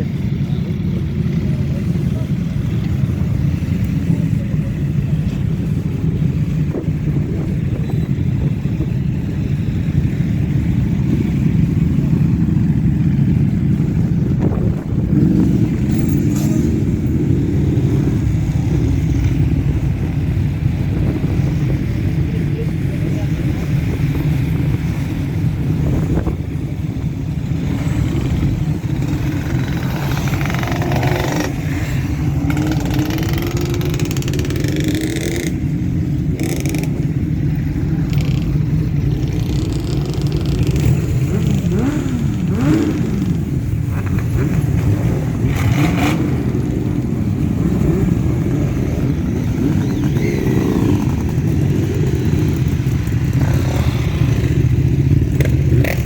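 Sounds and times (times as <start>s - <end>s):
motorcycle engines rumbling: 0.0s - 56.0s
motorcycles revving past: 9.9s - 56.0s.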